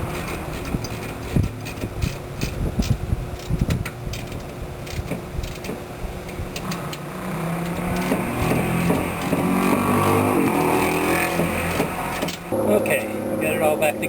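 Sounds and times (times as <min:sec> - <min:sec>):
tools and hardware clinking: 0:00.0 - 0:12.6
steady low hum: 0:00.0 - 0:14.0.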